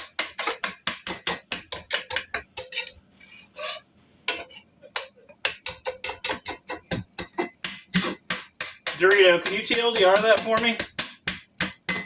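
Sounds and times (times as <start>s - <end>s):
utensil clicking against pan: 0.0s - 3.0s, 4.3s - 12.0s.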